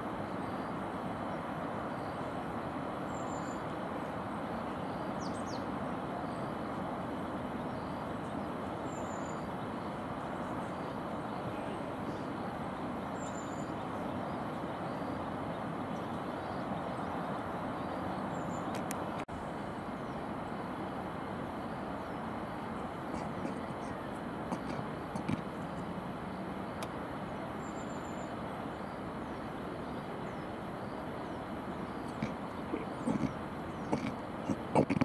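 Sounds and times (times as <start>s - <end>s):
distant city traffic hum: 0.0s - 35.0s.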